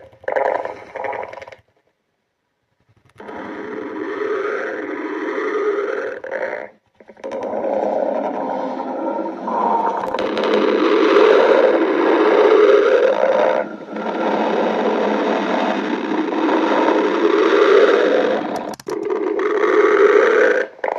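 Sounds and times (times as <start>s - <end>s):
stomach growling: 0.0s - 1.9s, 3.0s - 20.9s.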